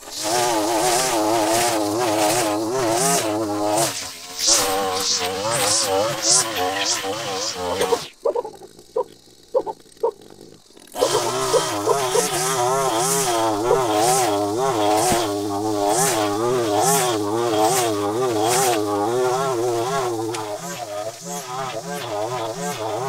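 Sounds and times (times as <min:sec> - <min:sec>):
string trimmer cutting grass: 0:00.0 - 0:23.0.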